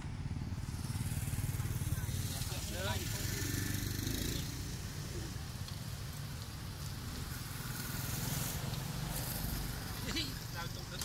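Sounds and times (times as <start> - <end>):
motorbike engines running: 0.0 - 11.0.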